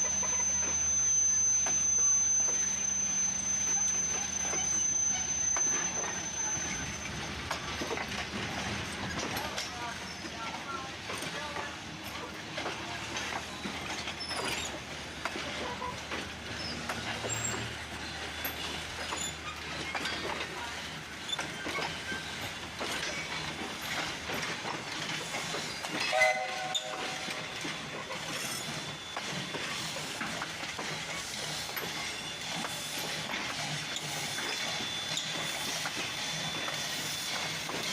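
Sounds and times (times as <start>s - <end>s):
train rumble: 0.0s - 37.9s
train wheels clicking on rails: 0.0s - 37.9s.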